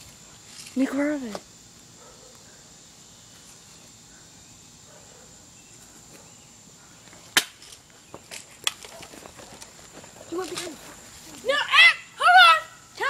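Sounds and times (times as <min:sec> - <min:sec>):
high insect whine: 0:00.0 - 0:13.0.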